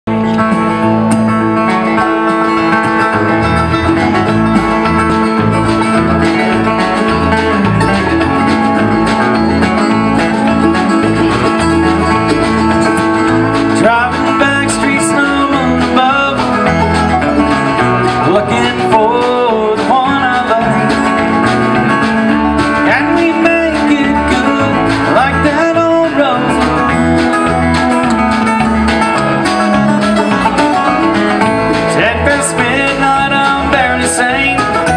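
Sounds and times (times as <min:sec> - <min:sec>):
banjo: 0:00.1 - 0:34.9
bluegrass band playing live: 0:00.1 - 0:34.9.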